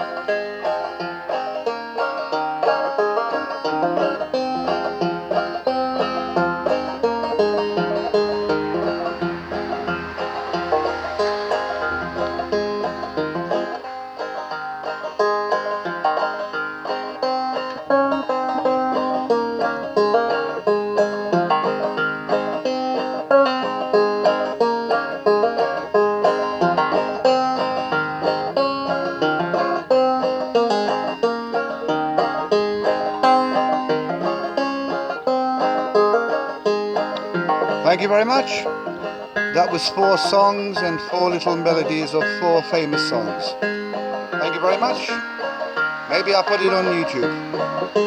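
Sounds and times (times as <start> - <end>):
banjo playing folk melody: 0.0 - 48.0.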